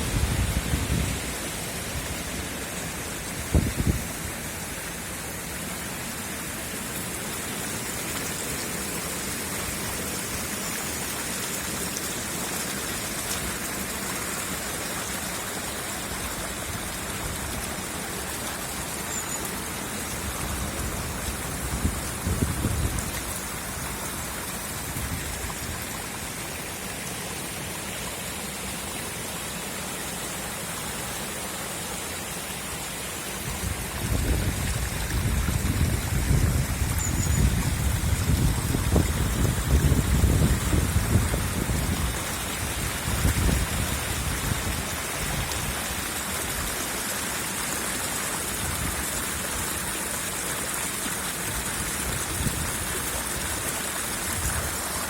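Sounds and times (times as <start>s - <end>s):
floodwater rushing: 0.0s - 55.0s
heavy rain: 0.0s - 55.0s.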